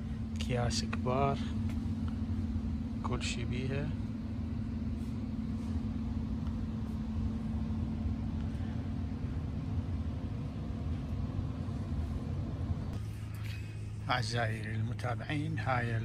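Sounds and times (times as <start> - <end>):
machine hum and rumble: 0.0 - 16.0.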